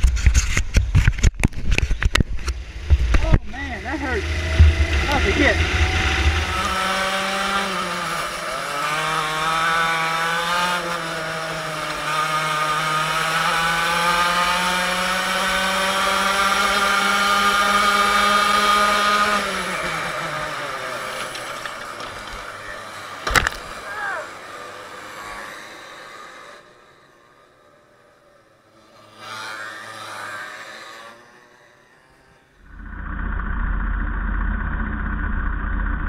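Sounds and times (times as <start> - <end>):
go-kart engine revving: 1.1 - 36.0.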